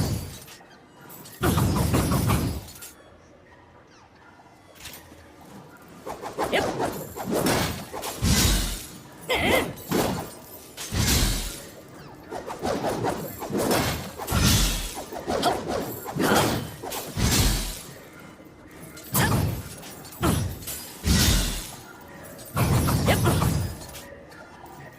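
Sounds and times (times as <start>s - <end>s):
metal chain clattering and swishing: 0.0s - 3.1s, 4.7s - 24.9s.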